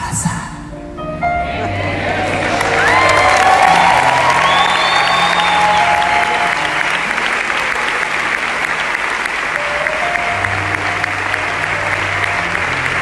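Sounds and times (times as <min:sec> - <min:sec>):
audience applauding: 0:01.8 - 0:13.0.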